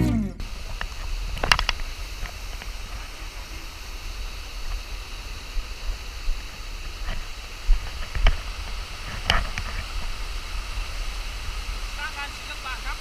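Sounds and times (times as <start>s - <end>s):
faint hiss: 0.4s - 13.0s.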